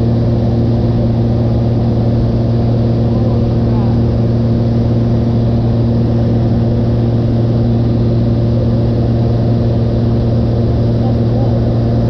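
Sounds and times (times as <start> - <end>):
plane engine drone in cabin: 0.0 - 12.0.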